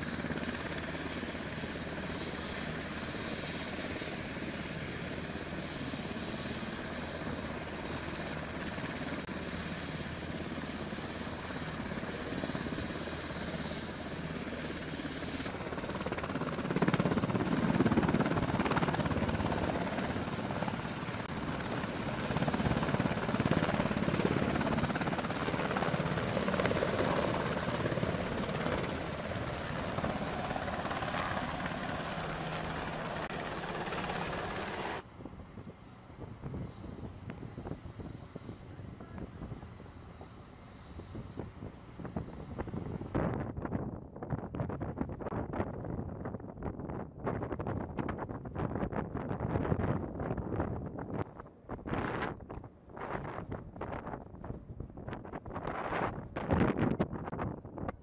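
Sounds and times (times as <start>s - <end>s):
helicopter turbine and rotor noise: 0.0s - 58.0s.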